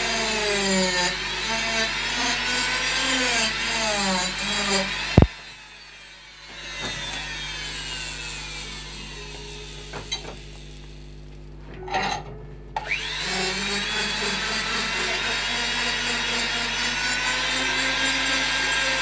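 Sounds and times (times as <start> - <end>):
power carving tool whining: 0.0 - 11.2, 12.8 - 19.0.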